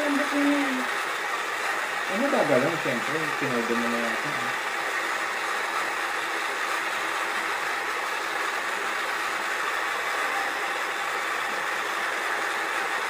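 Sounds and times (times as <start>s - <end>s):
small electric motor running: 0.0s - 13.0s.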